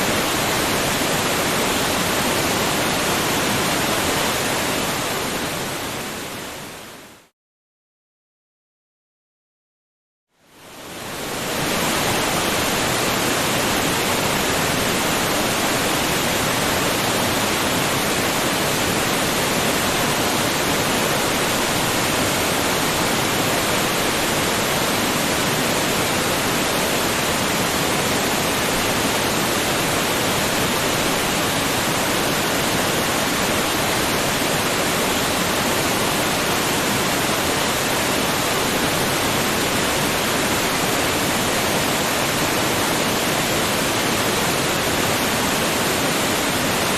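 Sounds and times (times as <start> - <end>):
waterfall rushing: 0.0 - 6.8, 10.7 - 46.9.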